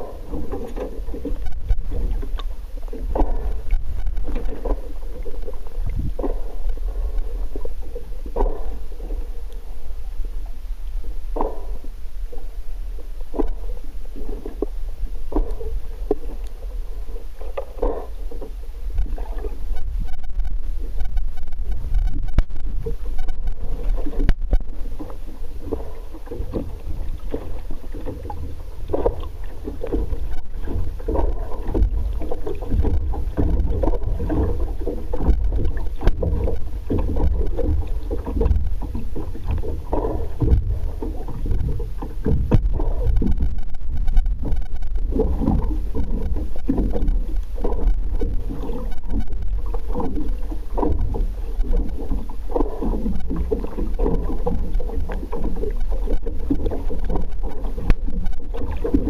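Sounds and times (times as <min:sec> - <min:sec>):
underwater rumble of water: 0:00.0 - 0:59.0
water gurgles: 0:00.0 - 0:59.0.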